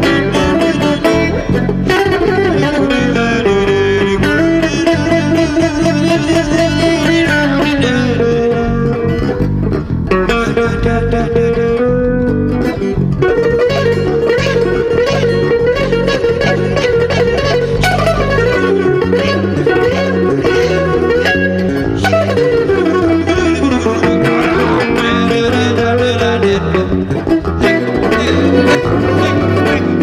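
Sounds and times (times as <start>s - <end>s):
bass guitar notes: 0.0s - 30.0s
electric guitar notes: 0.0s - 30.0s.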